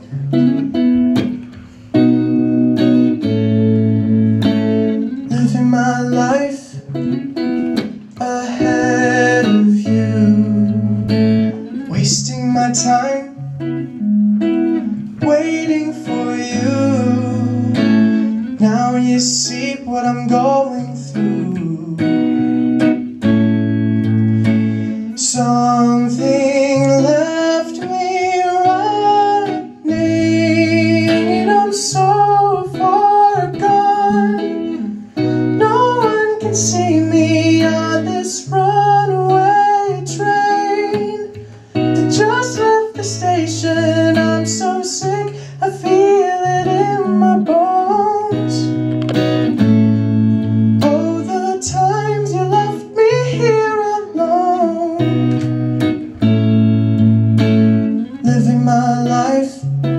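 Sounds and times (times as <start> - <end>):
person singing: 0.0 - 23.3, 24.0 - 56.1, 57.8 - 59.9
guitar chords: 0.0 - 59.9.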